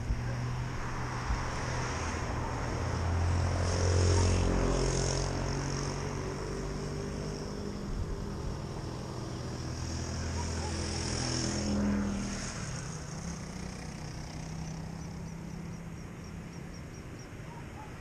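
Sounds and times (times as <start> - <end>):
low traffic drone: 0.0 - 18.0
vehicle passing close: 0.0 - 18.0.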